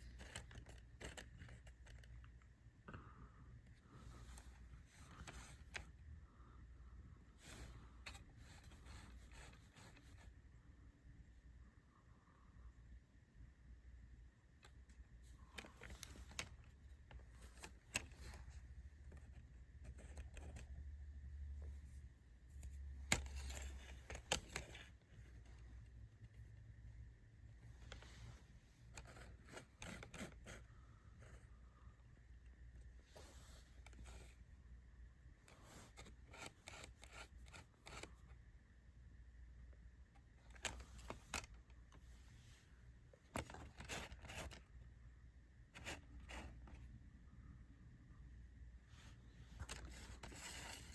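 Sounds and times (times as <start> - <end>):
low steady hum: 0.0 - 50.9.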